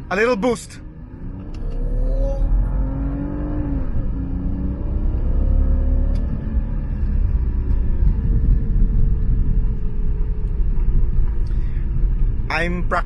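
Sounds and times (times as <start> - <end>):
car engine accelerating hard: 0.8 - 12.4.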